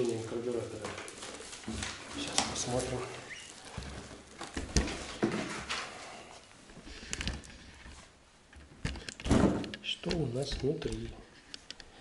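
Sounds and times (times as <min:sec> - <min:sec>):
cardboard and plastic rustling: 0:00.0 - 0:11.5.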